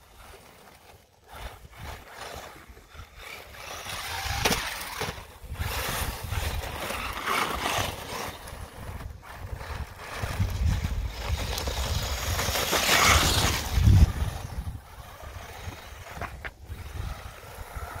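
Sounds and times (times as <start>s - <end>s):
toy truck motor whirring: 0.0s - 18.0s
wind rumble on microphone: 1.3s - 7.1s, 8.3s - 18.0s.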